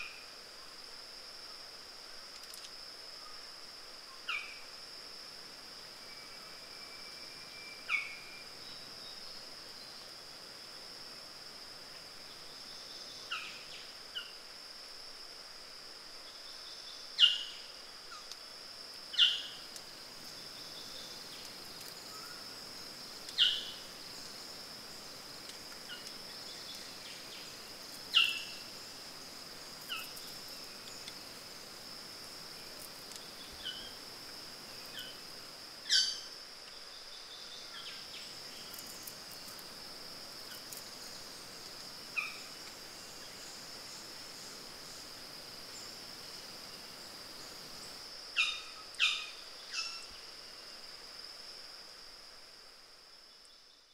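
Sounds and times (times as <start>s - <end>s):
high-pitched insect drone: 0.0s - 52.1s.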